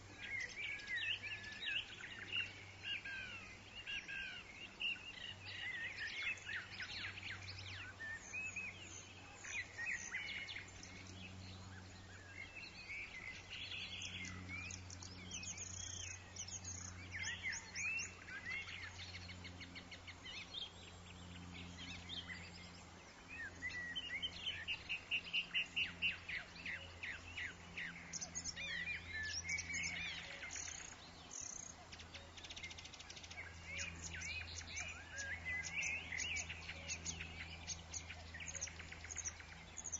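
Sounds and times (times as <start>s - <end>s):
birds chirping and calling: 0.0s - 39.9s
faint low hum: 0.0s - 39.9s.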